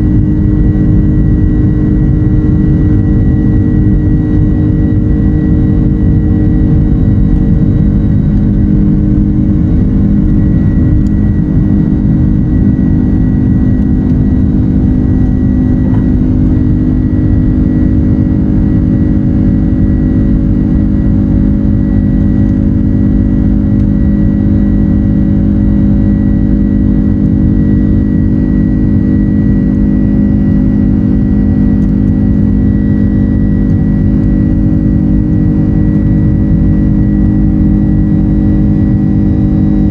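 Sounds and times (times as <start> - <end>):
high engine whine: 0.0 - 39.9
jet engine cabin drone: 0.0 - 39.9.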